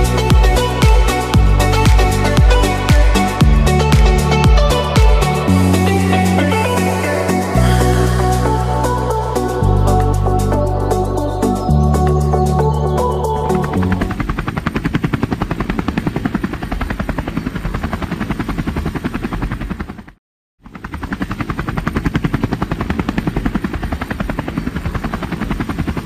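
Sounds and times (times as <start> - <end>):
helicopter rotor chopping: 0.0 - 26.0.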